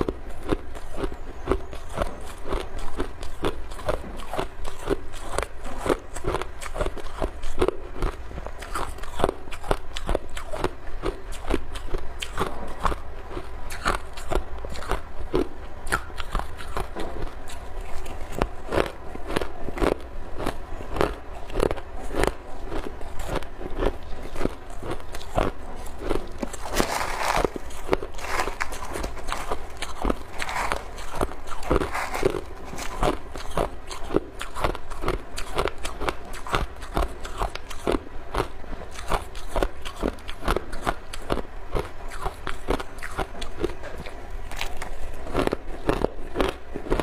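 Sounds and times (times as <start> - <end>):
ice being chewed: 0.0 - 47.0.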